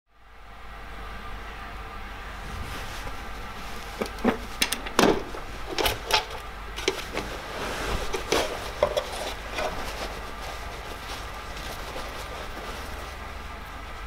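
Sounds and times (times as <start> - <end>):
cloth rustling: 2.4 - 14.0.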